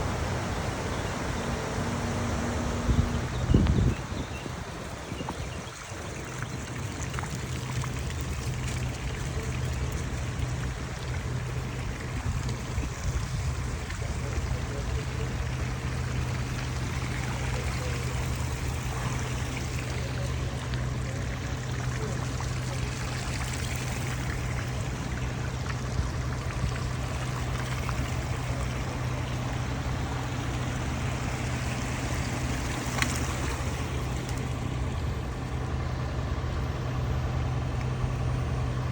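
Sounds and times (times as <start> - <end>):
floodwater rushing: 0.0 - 38.9
low engine hum: 0.0 - 38.9.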